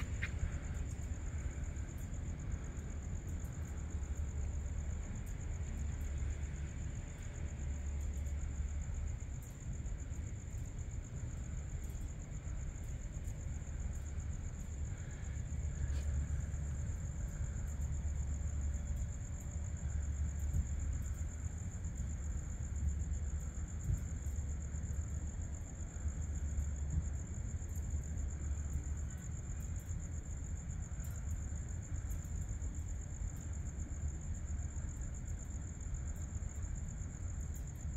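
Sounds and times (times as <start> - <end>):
crickets trilling: 0.0 - 37.9
insect chorus: 0.0 - 37.9
low steady rumble: 0.0 - 37.9.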